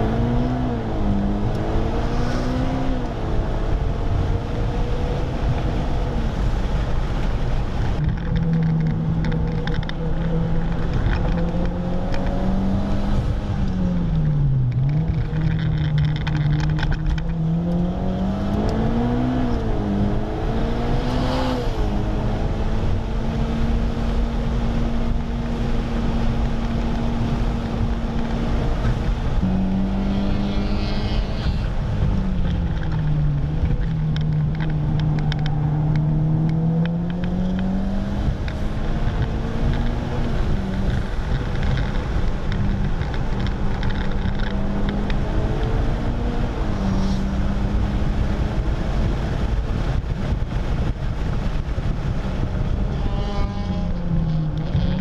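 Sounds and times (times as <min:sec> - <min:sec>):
car engine running hard: 0:00.0 - 0:55.0
wind and road noise: 0:00.0 - 0:55.0.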